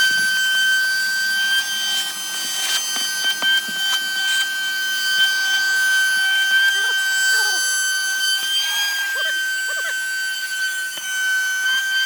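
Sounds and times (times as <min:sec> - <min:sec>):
machine whine: 0:00.0 - 0:12.0.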